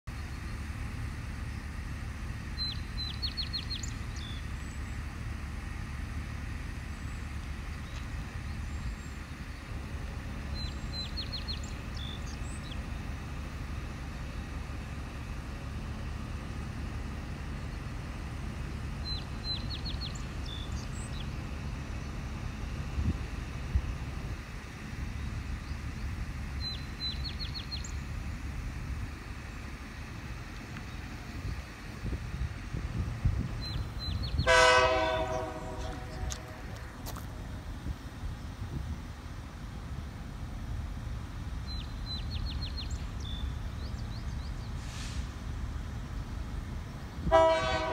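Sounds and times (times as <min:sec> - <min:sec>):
songbird singing: 0:00.1 - 0:37.6, 0:41.0 - 0:47.9
steady low rumble: 0:00.1 - 0:47.9.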